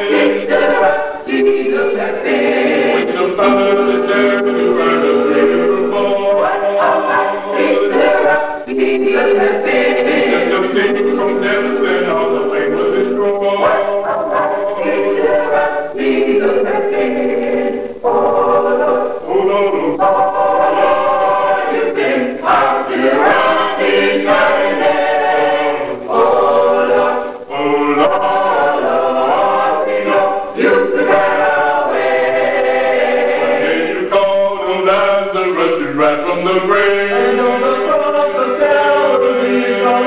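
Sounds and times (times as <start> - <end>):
choir singing a cappella: 0.0 - 40.0.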